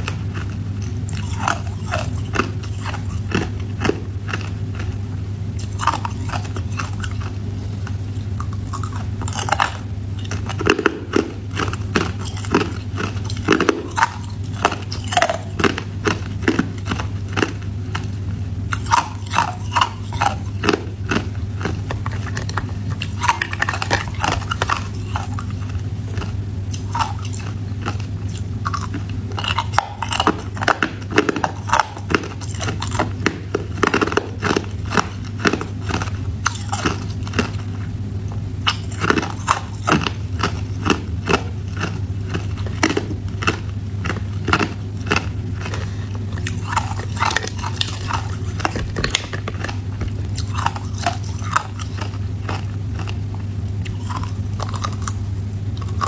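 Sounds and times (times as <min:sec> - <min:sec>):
ice crunching between teeth: 0:00.0 - 0:05.0, 0:05.6 - 0:37.9, 0:38.7 - 0:56.0.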